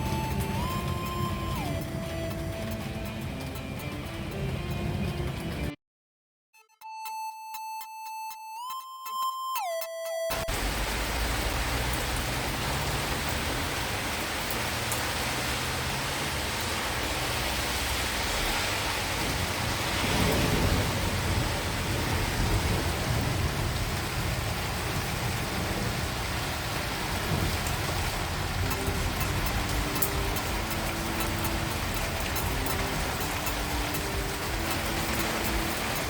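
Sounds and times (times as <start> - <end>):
heavy rain falling: 0.0 - 5.7, 10.3 - 36.0.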